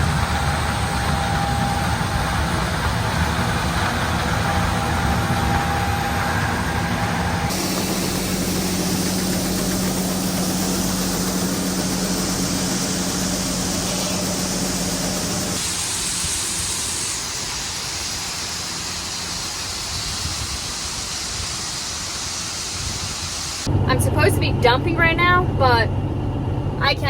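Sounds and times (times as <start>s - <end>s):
heavy vehicle engine humming: 0.0s - 20.3s, 23.4s - 27.0s
steady rushing noise: 0.0s - 24.3s.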